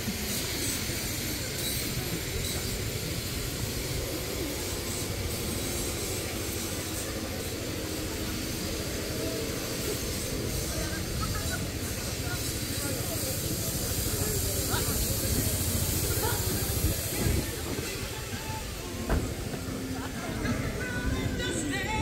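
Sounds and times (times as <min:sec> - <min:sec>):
murmur of voices: 0:00.0 - 0:22.0.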